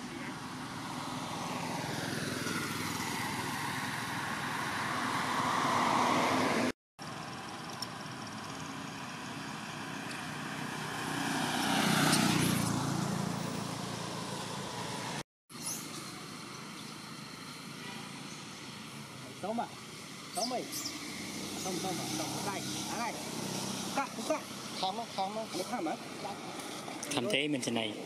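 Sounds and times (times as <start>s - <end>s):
vehicles passing on road: 0.0s - 28.0s.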